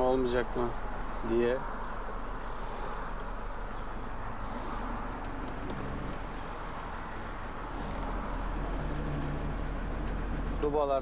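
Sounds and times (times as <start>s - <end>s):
road noise: 0.0s - 11.0s
truck diesel engine hum: 0.0s - 11.0s.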